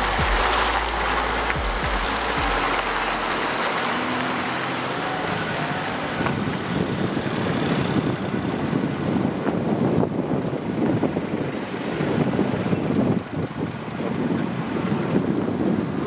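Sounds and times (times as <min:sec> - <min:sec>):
vehicle driving noise: 0:00.0 - 0:16.0
wind rumbling on microphone: 0:00.0 - 0:16.0.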